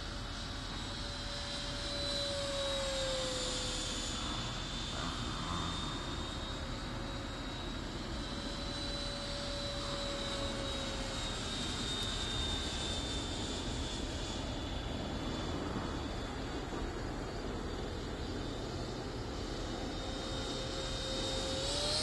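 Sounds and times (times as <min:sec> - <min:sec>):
model jet fan whine: 0:00.0 - 0:22.0.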